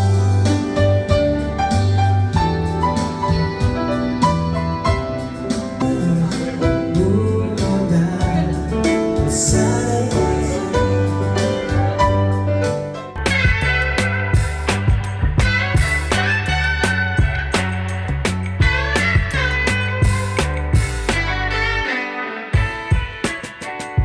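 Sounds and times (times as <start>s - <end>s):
instrumental pop music: 0.0s - 24.0s.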